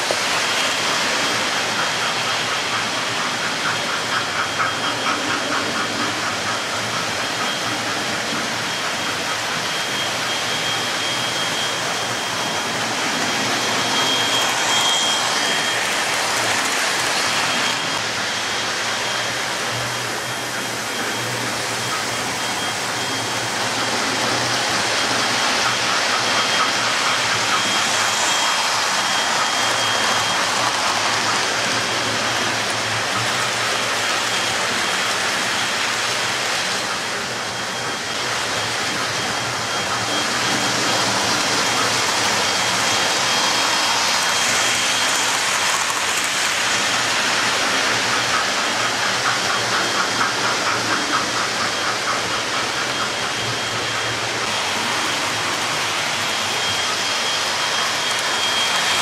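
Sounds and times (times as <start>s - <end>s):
model train wheels rattling on rail: 0.0s - 59.0s
thin high whine: 0.0s - 59.0s.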